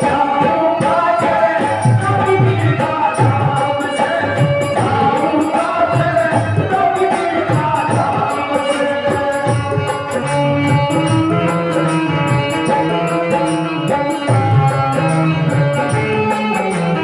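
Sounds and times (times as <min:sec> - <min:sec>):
high ticking percussion: 0:00.0 - 0:17.0.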